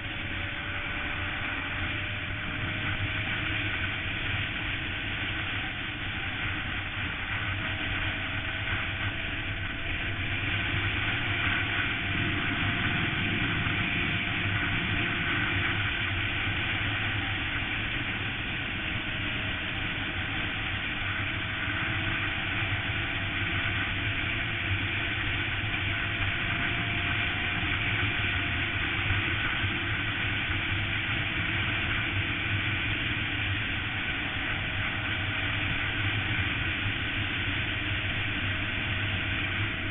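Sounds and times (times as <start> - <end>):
motorcycle engine at speed: 0.0 - 39.9
rush of wind noise: 0.0 - 39.9.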